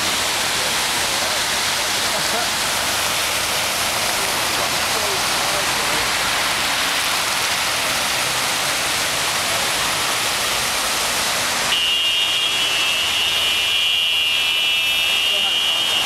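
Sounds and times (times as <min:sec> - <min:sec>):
cars driving through water: 0:00.0 - 0:16.0
heavy rain: 0:00.0 - 0:16.0.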